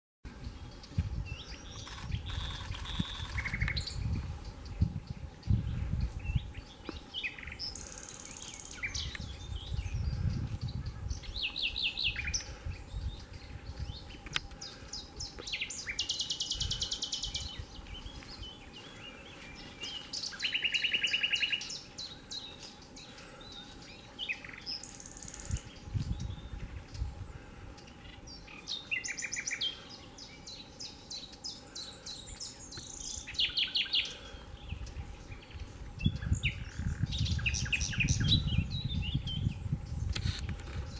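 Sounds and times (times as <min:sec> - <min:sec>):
nightingale singing: 0:00.3 - 0:40.9.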